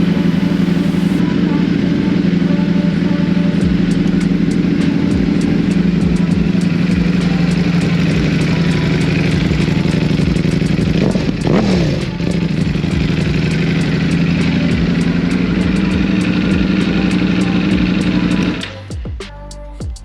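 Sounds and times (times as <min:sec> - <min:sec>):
motorcycle engine idling: 0:00.0 - 0:01.2, 0:03.0 - 0:19.1
engine throttle blip: 0:00.0 - 0:19.5.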